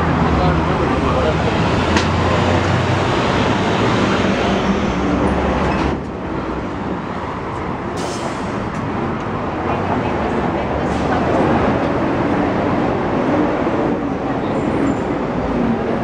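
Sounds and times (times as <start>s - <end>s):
passing vehicles: 0.0s - 16.0s.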